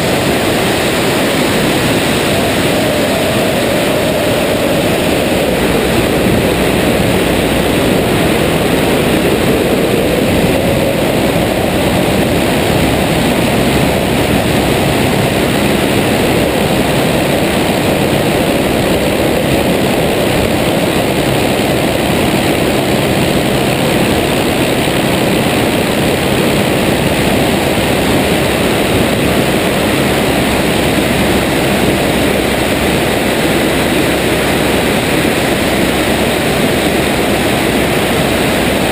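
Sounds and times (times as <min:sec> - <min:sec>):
propeller plane engine: 0:00.0 - 0:38.9
wind rushing: 0:00.0 - 0:38.9.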